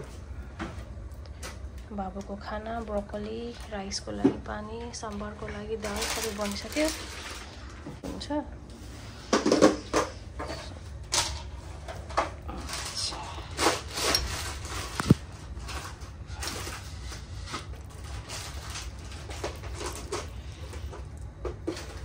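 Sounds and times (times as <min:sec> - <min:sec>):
kitchen handling rustles and clatters: 0:03.4 - 0:22.0.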